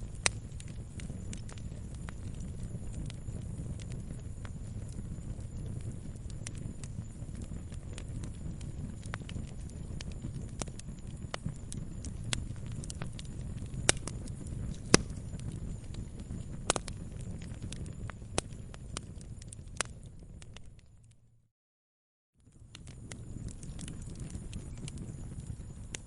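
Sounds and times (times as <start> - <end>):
campfire crackling: 0.0 - 21.2, 22.4 - 26.0
low rumble of burning fire: 0.0 - 21.4, 22.4 - 26.0.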